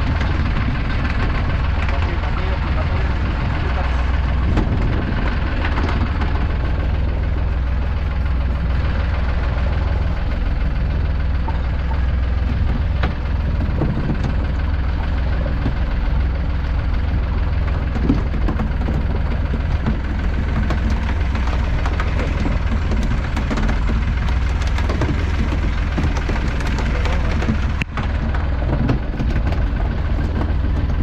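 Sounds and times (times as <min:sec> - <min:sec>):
boat engine idling: 0:00.0 - 0:31.0.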